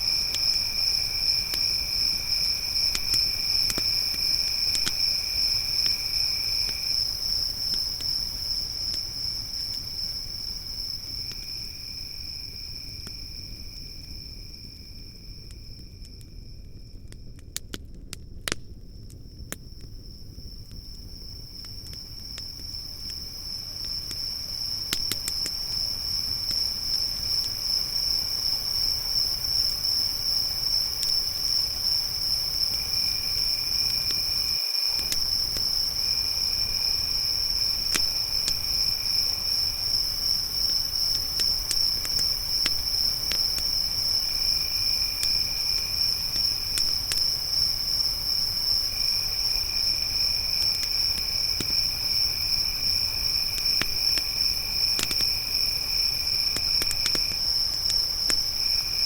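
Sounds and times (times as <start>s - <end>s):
lower-pitched insect: 0.0s - 17.7s, 19.0s - 59.0s
campfire crackling: 0.0s - 59.0s
crickets chirping: 0.0s - 59.0s.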